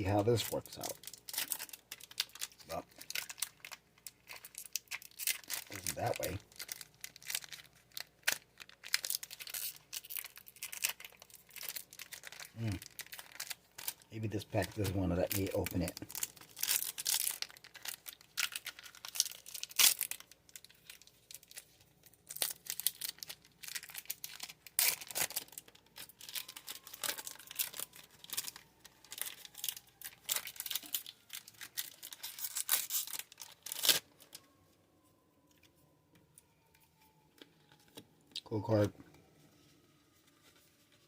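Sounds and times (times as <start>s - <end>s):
foil wrapper tearing and crinkling: 0.0s - 34.4s.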